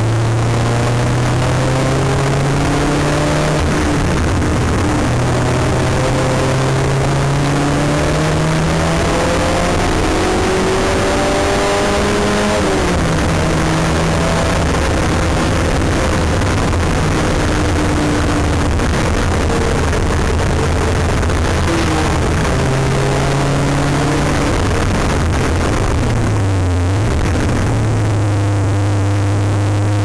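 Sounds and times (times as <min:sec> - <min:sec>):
car engine from inside cabin: 0:00.0 - 0:30.0
road and tyre noise: 0:00.0 - 0:30.0.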